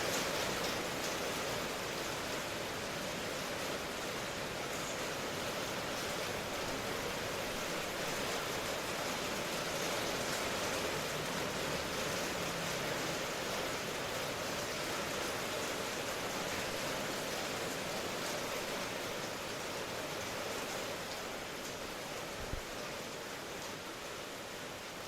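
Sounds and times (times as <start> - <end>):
hiss of falling rain: 0.0 - 25.0.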